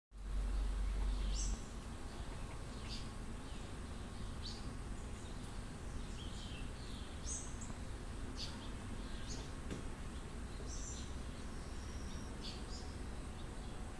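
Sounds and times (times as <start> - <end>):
low rumble on microphone: 0.2 - 13.9.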